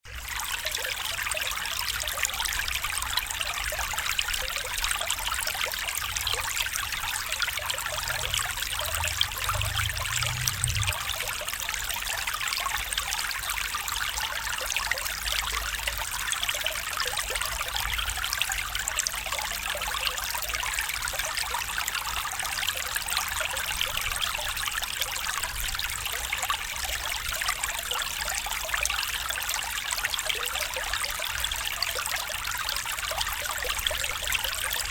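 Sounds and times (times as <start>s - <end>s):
small stream trickling: 0.0s - 34.9s.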